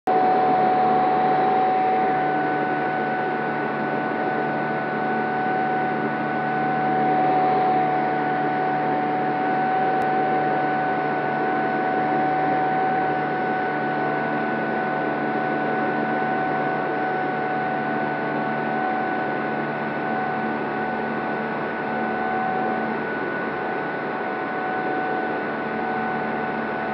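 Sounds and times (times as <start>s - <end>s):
electric motor and propeller whine: 0.1s - 26.9s.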